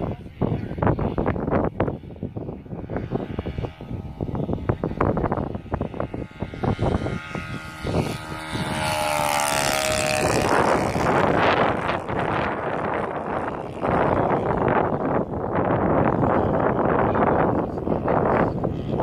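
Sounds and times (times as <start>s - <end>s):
model airplane engine flying past: 0.0s - 19.0s
wind buffeting on microphone: 0.0s - 19.0s.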